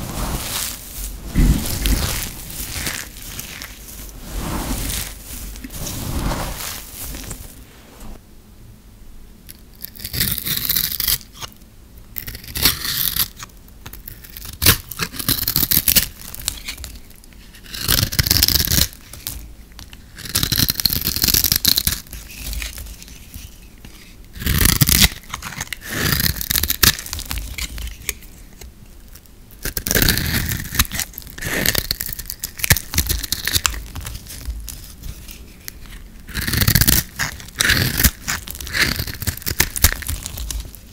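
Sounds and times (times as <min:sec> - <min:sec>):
knife scraping dry soap: 0:00.0 - 0:07.6, 0:12.2 - 0:40.9.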